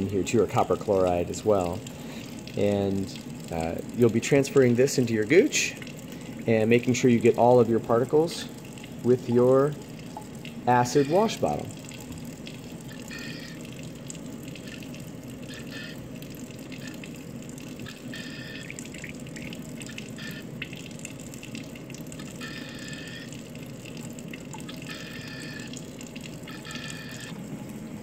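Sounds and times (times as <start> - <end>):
tap water running: 0.0 - 28.0.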